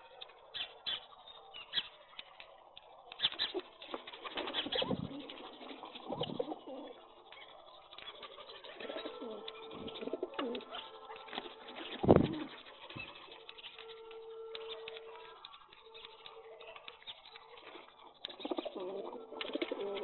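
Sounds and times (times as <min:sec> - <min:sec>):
pigeons pecking ticks: 0:00.0 - 0:20.0
pigeons cooing: 0:03.1 - 0:20.0.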